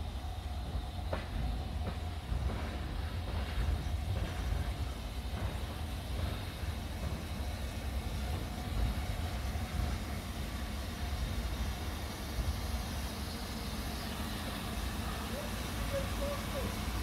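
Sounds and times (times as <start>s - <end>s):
steam locomotive rumble: 0.0s - 17.0s.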